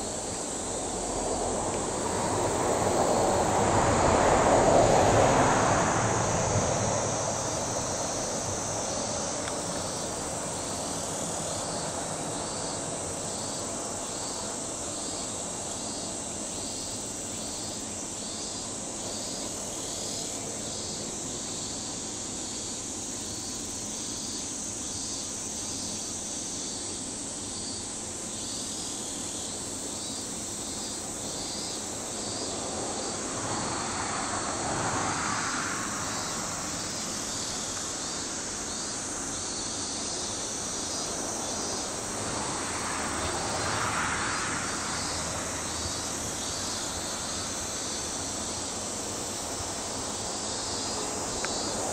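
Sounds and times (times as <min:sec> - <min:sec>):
cicadas buzzing: 0:00.0 - 0:51.9.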